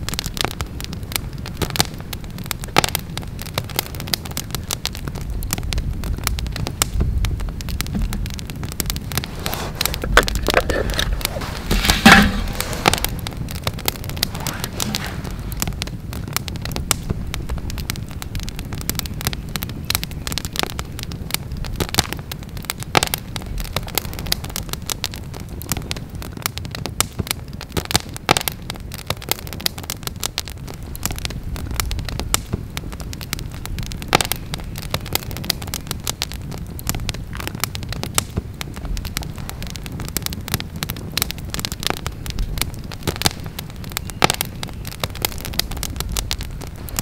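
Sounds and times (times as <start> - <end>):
campfire crackling: 0.0 - 47.0
fire pops and snaps: 0.0 - 47.0.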